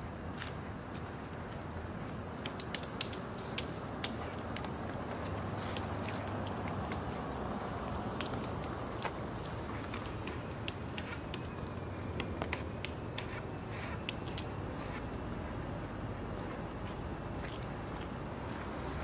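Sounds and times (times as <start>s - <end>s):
high insect drone: 0.0s - 19.0s
woodpeckers tapping bark: 1.5s - 18.1s.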